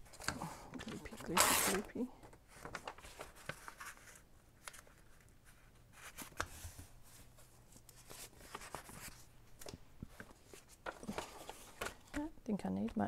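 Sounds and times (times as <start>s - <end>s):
paper pages rustling: 0.0s - 13.0s.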